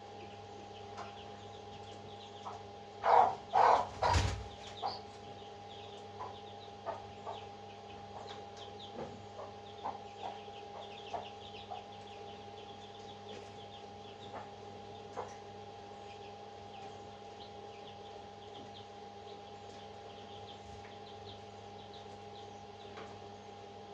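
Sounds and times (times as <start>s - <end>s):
steady electrical hum: 0.0s - 23.9s
young birds chirping: 0.0s - 23.9s.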